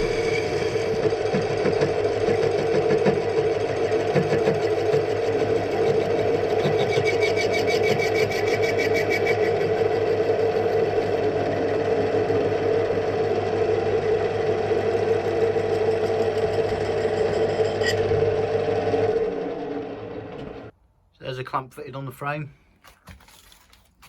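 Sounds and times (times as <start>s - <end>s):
machine tool motor cutting: 0.0s - 20.7s.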